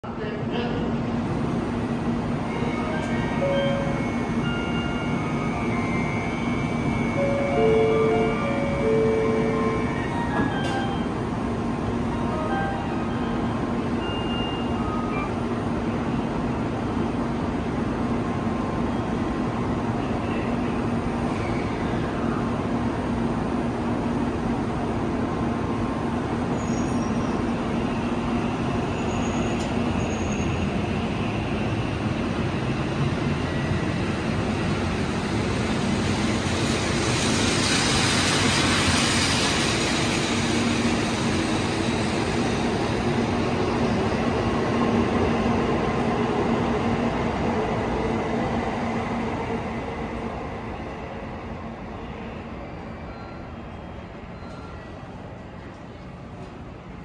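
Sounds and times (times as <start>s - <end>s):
train hum and rolling noise: 0.0s - 57.0s.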